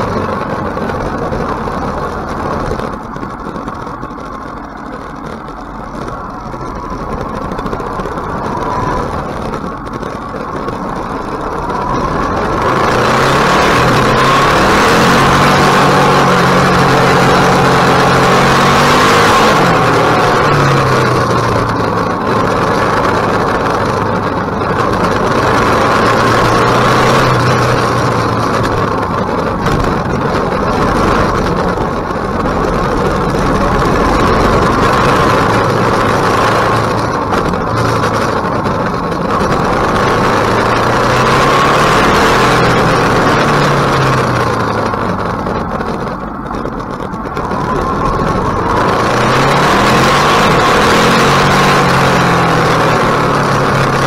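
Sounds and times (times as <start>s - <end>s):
motorcycle engine pulling through gears: 0.0s - 54.0s
steady rushing noise: 0.0s - 54.0s.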